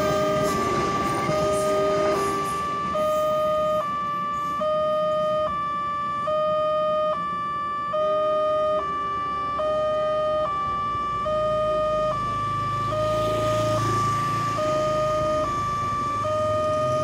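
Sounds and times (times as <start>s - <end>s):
two-tone level crossing alarm: 0.0s - 17.0s.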